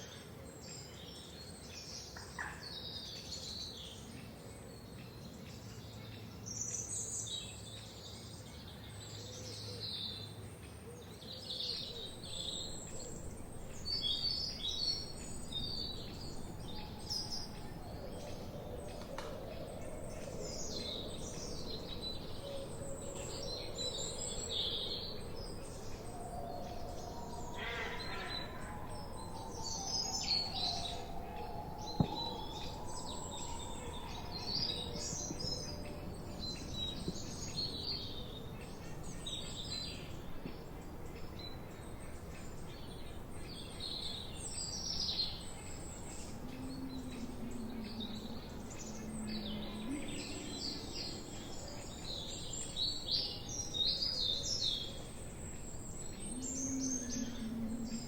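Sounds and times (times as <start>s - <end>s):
songbirds chirping and singing: 0.0s - 58.0s
steady background hiss: 3.2s - 58.0s.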